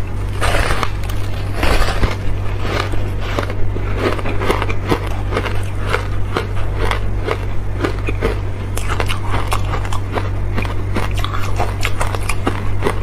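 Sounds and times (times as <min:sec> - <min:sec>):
ice being bitten and chewed: 0:00.3 - 0:13.0.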